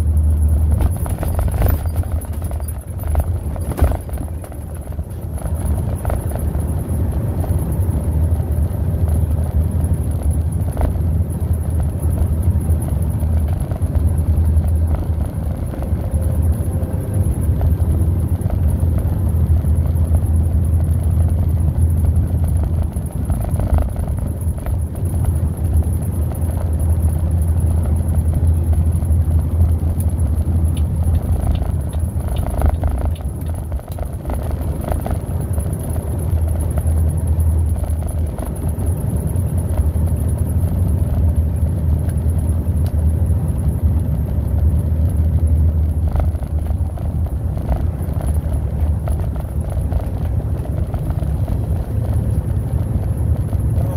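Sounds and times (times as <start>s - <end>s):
vehicle engine and road noise: 0.0s - 53.9s.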